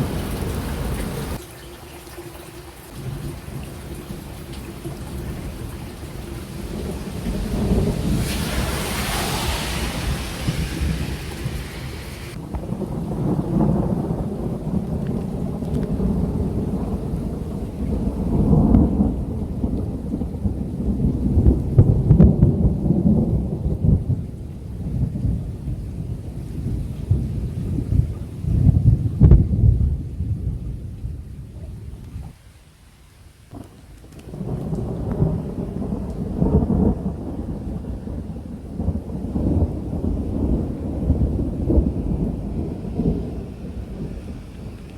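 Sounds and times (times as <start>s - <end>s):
rolling thunder: 0.0s - 32.4s, 33.5s - 44.9s
rain hiss: 0.0s - 44.9s.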